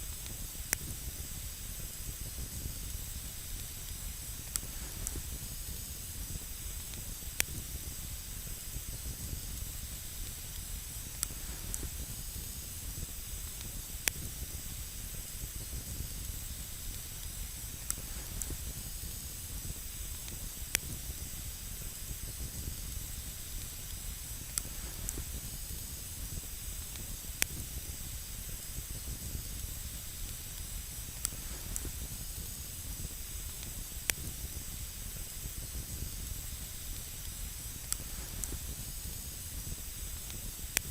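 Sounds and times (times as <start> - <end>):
campfire hissing: 0.0 - 40.9
campfire crackling and popping: 0.1 - 40.9.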